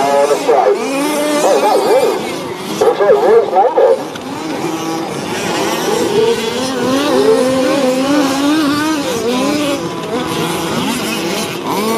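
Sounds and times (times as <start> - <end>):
model car engines revving: 0.0 - 11.9.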